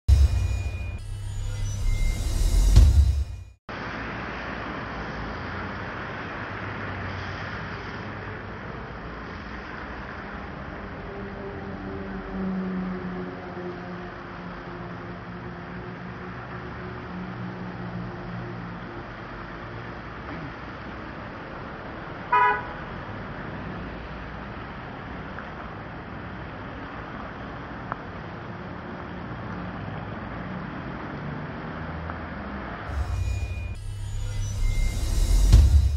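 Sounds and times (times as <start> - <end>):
cars moving on a wet road: 3.7 - 35.9.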